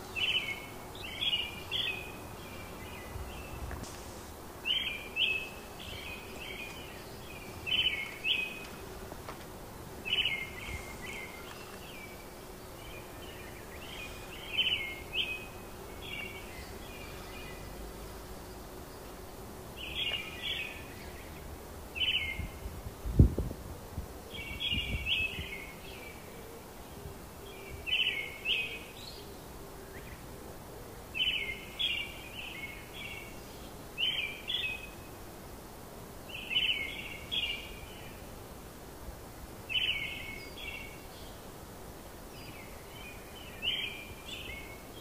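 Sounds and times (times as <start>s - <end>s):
songbird chirping: 0.0s - 22.7s, 24.3s - 35.3s, 36.2s - 38.7s, 39.6s - 45.0s.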